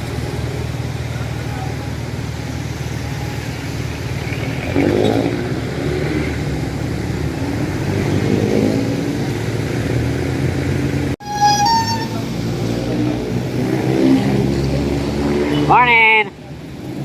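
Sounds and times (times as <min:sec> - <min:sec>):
vehicle engine passing: 0:00.0 - 0:15.7
traffic engine hum: 0:00.0 - 0:17.0.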